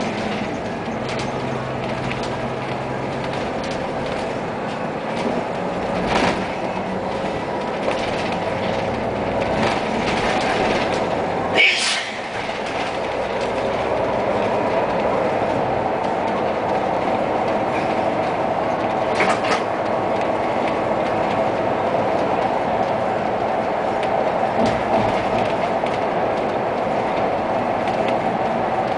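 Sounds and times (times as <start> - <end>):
vehicle engine and road noise: 0.0 - 28.9.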